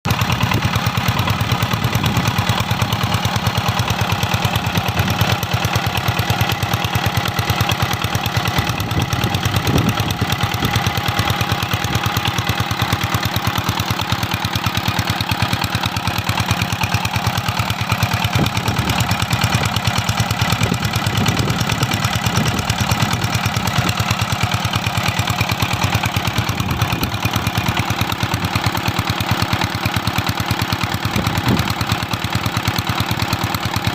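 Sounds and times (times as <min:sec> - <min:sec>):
diesel engine driving water pump: 0:00.0 - 0:33.9.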